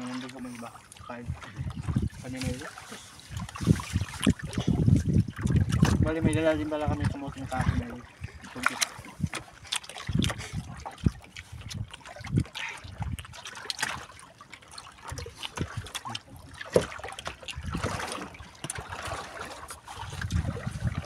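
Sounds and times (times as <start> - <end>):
water lapping against boat hull: 0.0 - 21.0.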